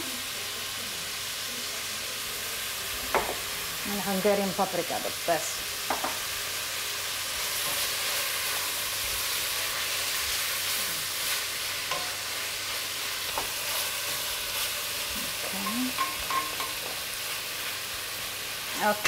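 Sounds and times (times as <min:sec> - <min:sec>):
beef sizzling in a pot: 0:00.0 - 0:19.0.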